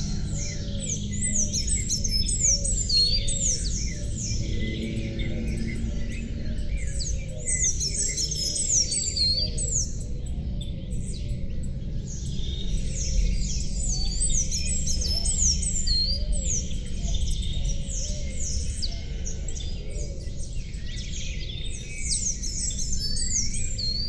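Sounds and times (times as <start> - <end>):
low background hum: 0.0 - 24.0
songbirds singing: 0.0 - 24.0.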